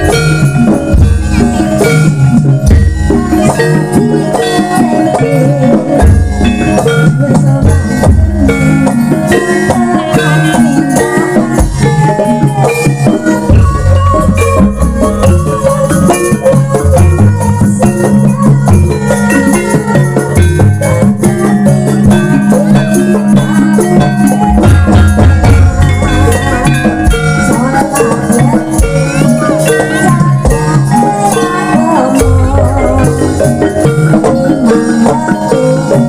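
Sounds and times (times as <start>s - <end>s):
hand drums: 0.0s - 36.0s
metal gong-chimes and metallophones: 0.0s - 36.0s.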